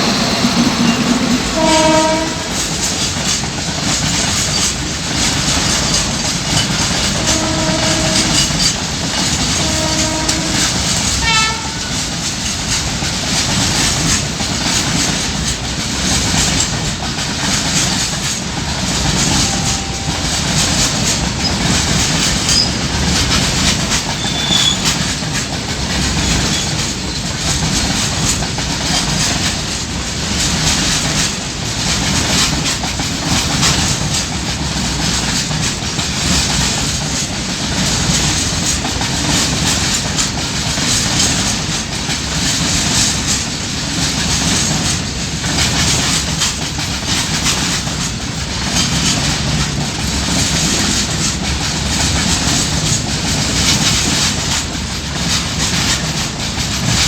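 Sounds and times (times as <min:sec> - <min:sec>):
train wheels clattering over rail joints: 0:00.0 - 0:57.0.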